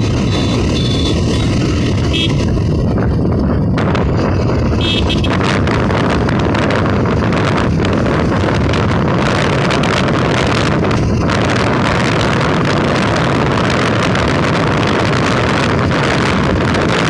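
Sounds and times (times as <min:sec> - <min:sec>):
road and engine rumble: 0:00.0 - 0:17.0
wind buffeting microphone: 0:00.0 - 0:17.0.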